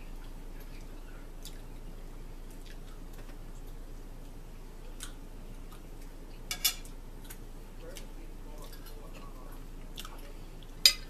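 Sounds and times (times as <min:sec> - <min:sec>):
steady low hum: 0:00.0 - 0:11.0
person chewing: 0:00.1 - 0:11.0.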